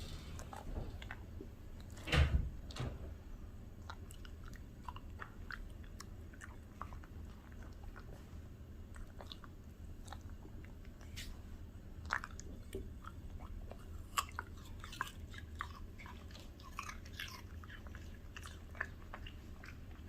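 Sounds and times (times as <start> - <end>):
dog chewing and crunching: 3.7 - 20.0.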